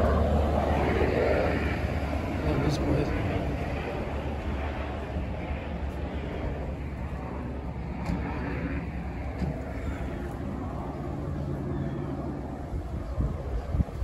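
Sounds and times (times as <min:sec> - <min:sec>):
low steady hum: 0:00.0 - 0:14.0
motor vehicle running: 0:00.0 - 0:14.0.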